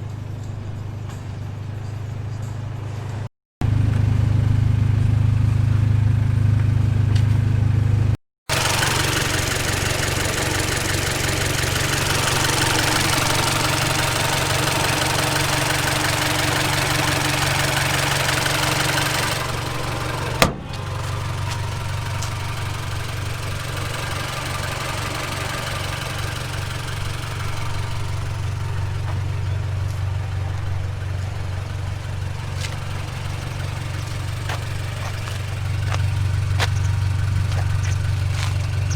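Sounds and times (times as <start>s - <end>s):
car engine running: 0.0s - 38.9s
road and wind noise: 0.0s - 38.9s.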